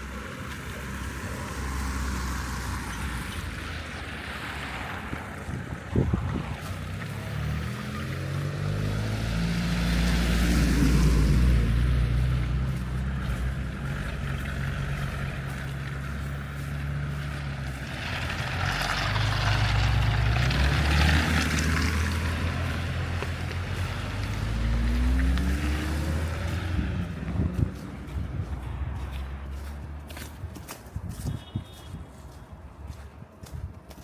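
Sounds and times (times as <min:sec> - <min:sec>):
vehicle engines running: 0:00.0 - 0:31.2.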